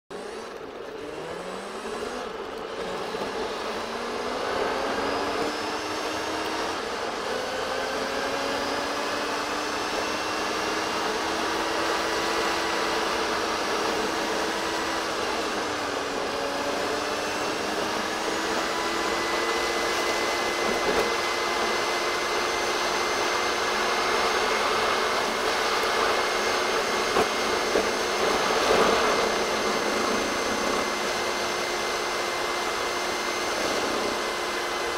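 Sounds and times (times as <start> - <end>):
sped-up car gearbox whine: 0.1 - 34.9.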